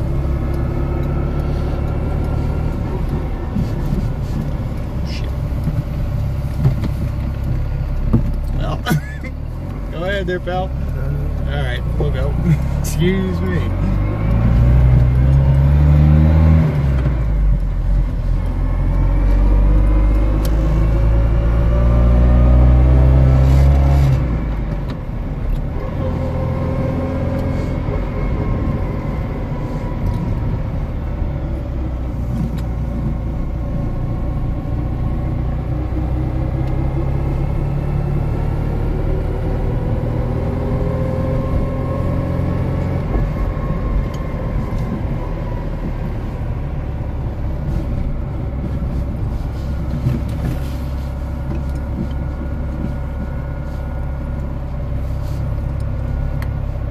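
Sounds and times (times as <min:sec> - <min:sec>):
car engine heard from cabin: 0:00.0 - 0:56.9.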